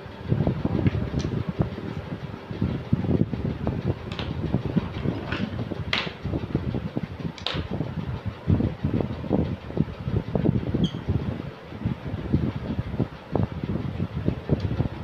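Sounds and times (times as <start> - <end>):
air buffeting microphone: 0.0 - 15.0
fan running: 0.0 - 15.0.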